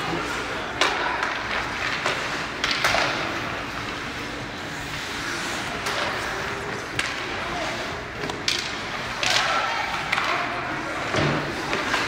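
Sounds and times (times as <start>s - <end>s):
skates scraping on ice: 0.0s - 12.0s
stick and puck clacks: 0.6s - 4.6s, 5.6s - 12.0s.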